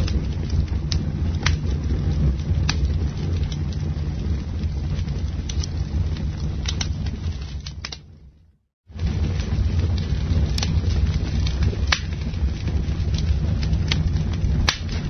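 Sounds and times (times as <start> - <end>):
burning wood crackling and popping: 0.0 - 15.0
low rumble of flames: 0.0 - 15.0.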